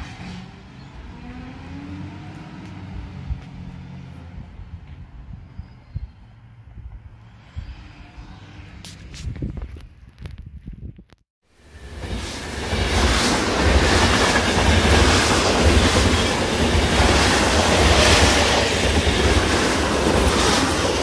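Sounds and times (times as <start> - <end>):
freight train low rumble: 0.0 - 8.8, 11.5 - 21.0.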